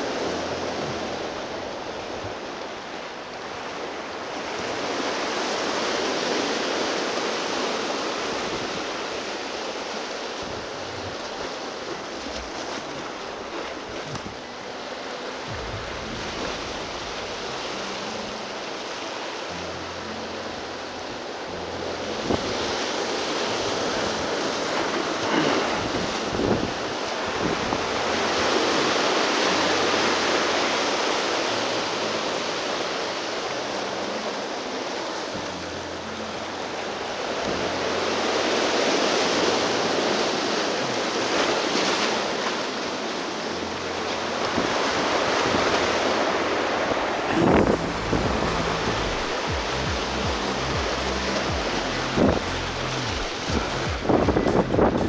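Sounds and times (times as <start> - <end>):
surf breaking over rocks: 0.0 - 20.4, 21.6 - 35.6, 37.0 - 55.0.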